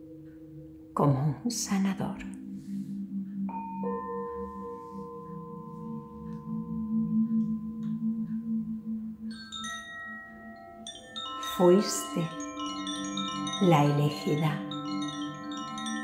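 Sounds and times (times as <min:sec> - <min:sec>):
low drone: 0:00.0 - 0:16.0
higher chiming notes: 0:02.4 - 0:16.0
long ringing tone: 0:03.0 - 0:16.0.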